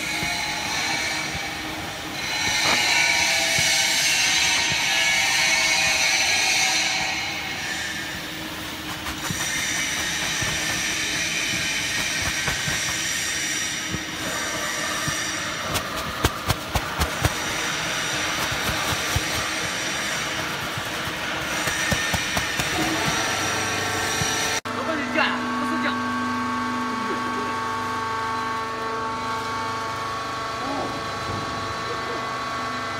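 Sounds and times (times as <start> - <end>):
machinery whine and hum: 0.0 - 32.9.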